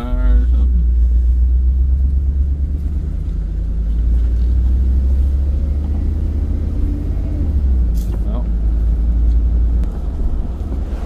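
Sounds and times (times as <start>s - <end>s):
truck rumbling from inside cab: 0.0s - 11.0s.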